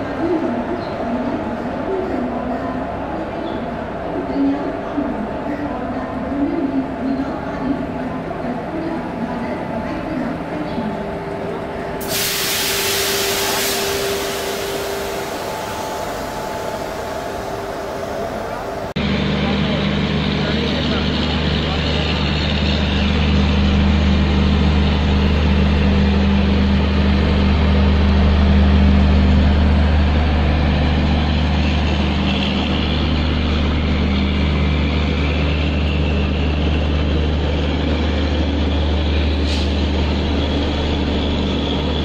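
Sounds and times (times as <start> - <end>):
electric locomotives droning: 0.0 - 42.0.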